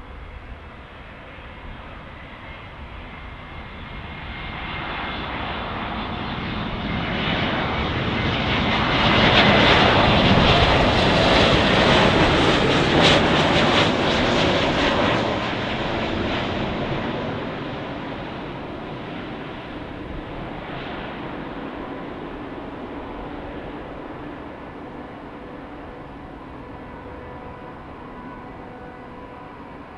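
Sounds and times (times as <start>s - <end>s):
jet airliner engine roar: 0.0s - 29.9s.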